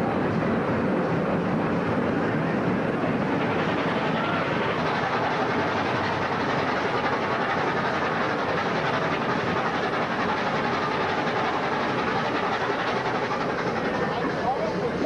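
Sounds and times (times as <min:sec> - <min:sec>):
train wheels rushing in tunnel: 0:00.0 - 0:15.0.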